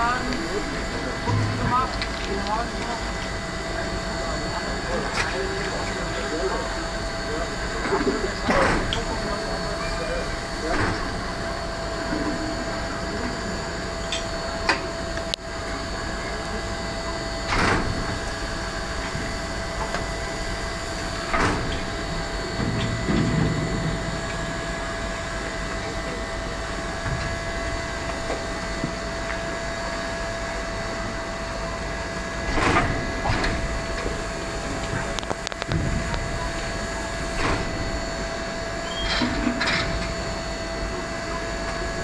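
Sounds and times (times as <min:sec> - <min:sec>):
steam locomotive hum and hiss: 0:00.0 - 0:42.0.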